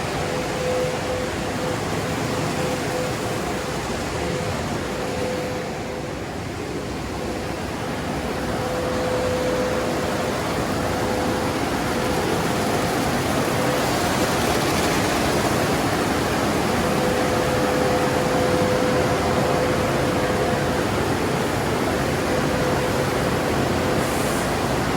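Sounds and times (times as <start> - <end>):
car wash equipment rushing: 0.0 - 24.9.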